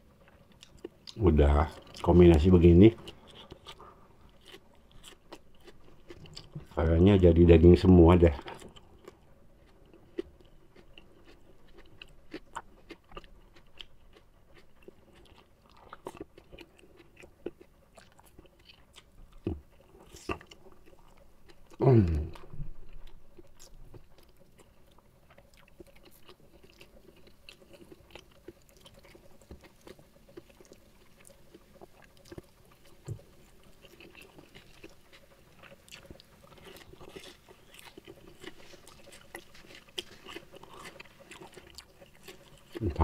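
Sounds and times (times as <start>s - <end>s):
person chewing food: 0.0s - 7.0s, 8.3s - 43.0s.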